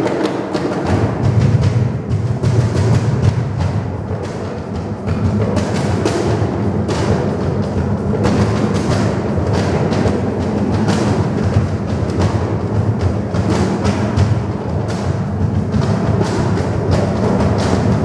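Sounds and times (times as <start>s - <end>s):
hand drumming on wooden cajon: 0.0s - 18.0s.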